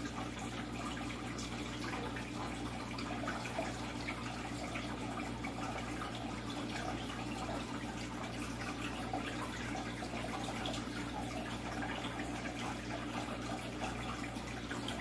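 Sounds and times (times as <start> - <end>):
aquarium water trickling and bubbling: 0.0 - 15.0
low steady hum: 0.0 - 15.0.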